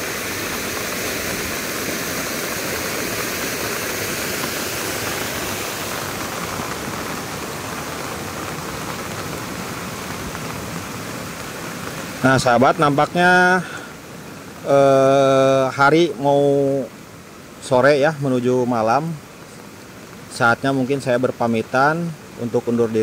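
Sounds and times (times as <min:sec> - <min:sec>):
water rushing along channel: 0:00.0 - 0:23.0.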